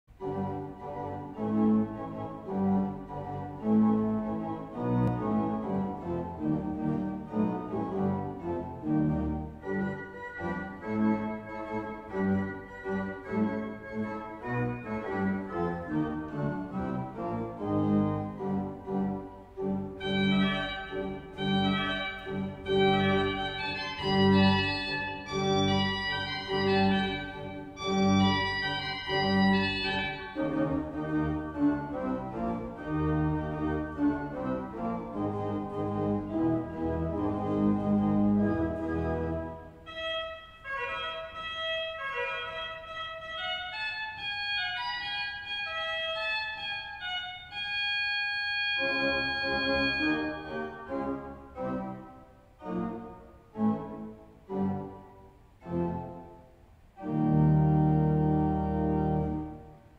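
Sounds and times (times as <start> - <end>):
pipe organ playing chords: 0.1 - 59.9.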